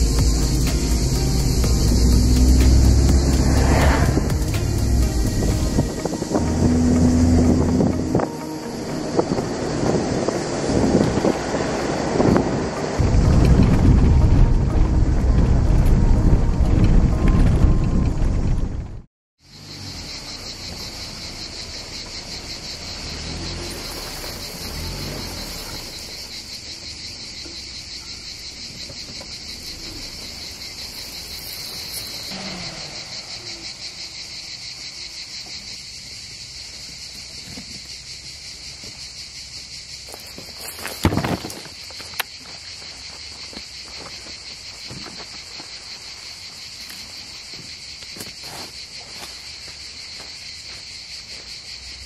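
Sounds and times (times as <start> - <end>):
insects chirring: 0.0 - 18.6, 19.4 - 52.0.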